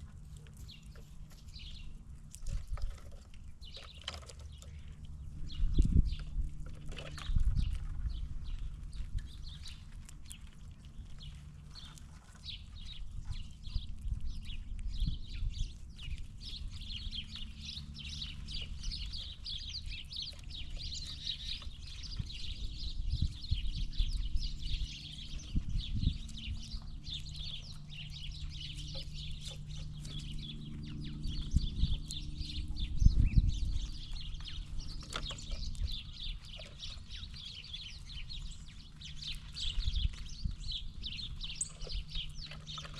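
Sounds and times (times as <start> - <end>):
birds chirping: 0.0 - 42.9
low rumble: 4.5 - 42.9.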